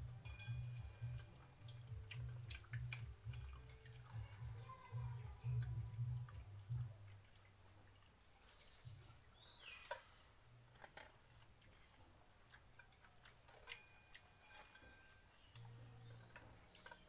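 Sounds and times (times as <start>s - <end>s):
chewing: 0.0s - 17.0s
fingers mixing wet rice in bowls: 0.0s - 17.0s.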